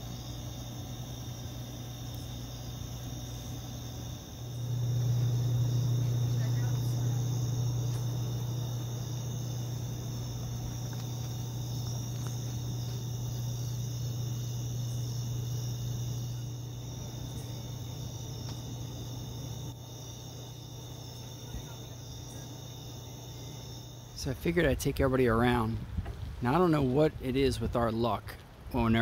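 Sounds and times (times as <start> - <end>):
insects trilling: 0.0 - 25.8
steady low hum: 0.0 - 29.0.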